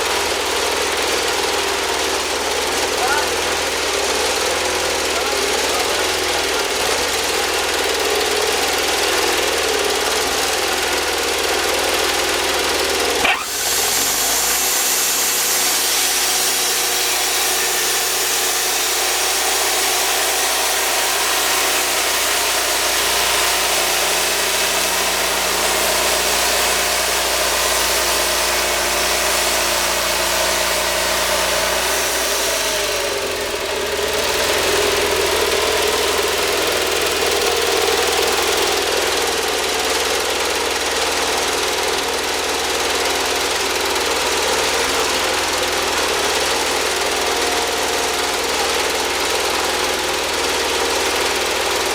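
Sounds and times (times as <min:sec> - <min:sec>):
sawmill engine running: 0:00.0 - 0:51.9.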